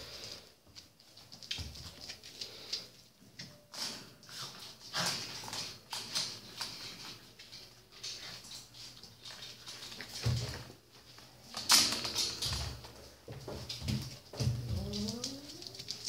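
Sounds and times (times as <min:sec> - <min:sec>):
claws clicking and pattering: 0:00.0 - 0:16.0
puppies scuffling: 0:00.0 - 0:16.0.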